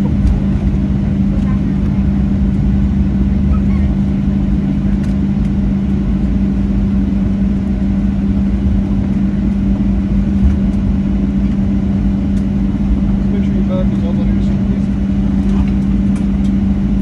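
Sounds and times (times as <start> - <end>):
airliner cabin hum: 0.0 - 17.0.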